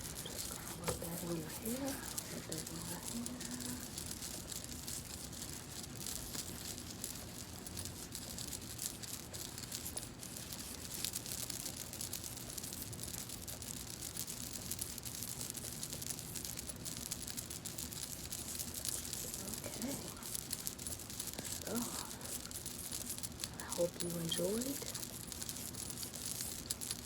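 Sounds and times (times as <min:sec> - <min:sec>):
fingers rubbing and scratching hair: 0:00.0 - 0:27.0.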